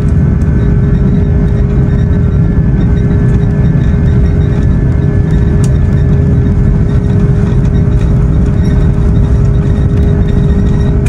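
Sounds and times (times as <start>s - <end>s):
constant cabin hum: 0.0s - 11.0s
low engine rumble: 0.0s - 11.0s.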